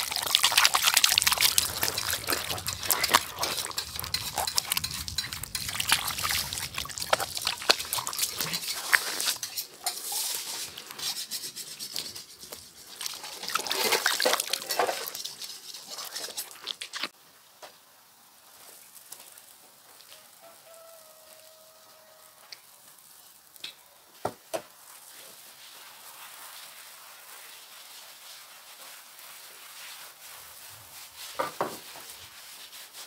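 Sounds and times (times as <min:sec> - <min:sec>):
pork sizzling in hot fat: 0:00.0 - 0:33.0.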